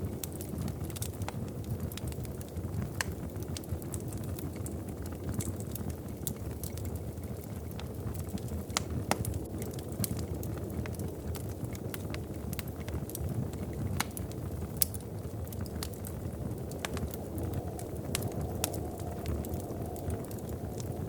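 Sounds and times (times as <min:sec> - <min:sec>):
fire crackling and popping: 0:00.0 - 0:21.0
wood fire burning: 0:00.0 - 0:21.0.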